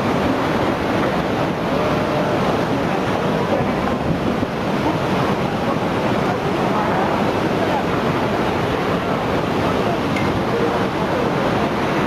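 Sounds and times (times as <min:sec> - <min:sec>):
floodwater rushing: 0:00.0 - 0:12.0
wind buffeting microphone: 0:00.0 - 0:12.0.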